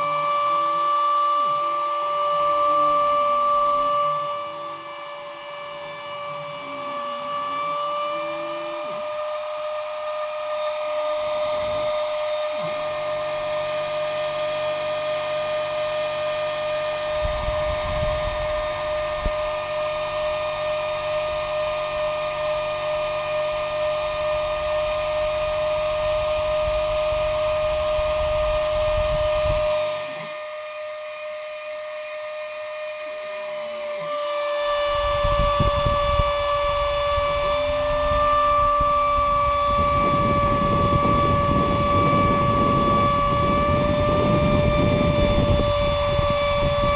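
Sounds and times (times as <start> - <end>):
machine motors whining: 0.0 - 46.9.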